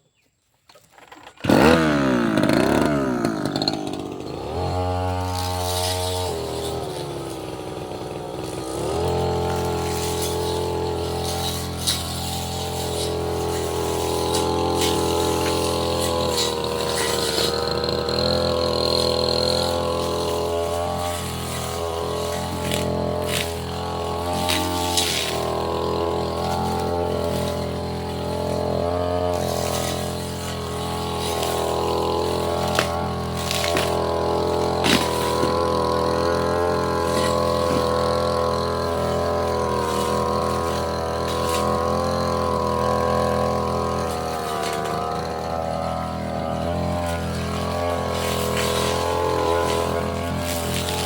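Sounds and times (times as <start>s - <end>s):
brush cutter engine running: 0.8s - 51.0s.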